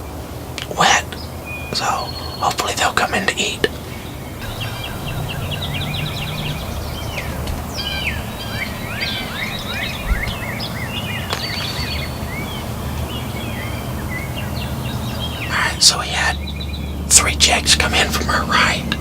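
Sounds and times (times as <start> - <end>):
low outdoor rumble: 0.0 - 19.0
songbirds singing: 0.0 - 19.0.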